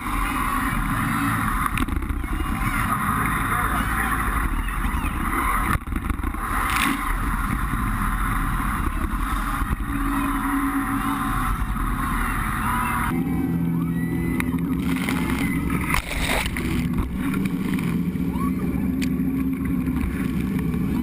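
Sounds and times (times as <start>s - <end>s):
churning water and waves: 0.0s - 21.0s
jet boat engine: 0.0s - 21.0s.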